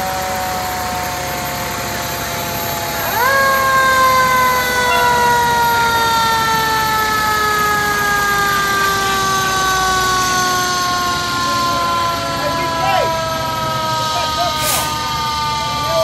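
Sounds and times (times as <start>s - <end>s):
mechanical siren winding down: 0.0s - 16.0s.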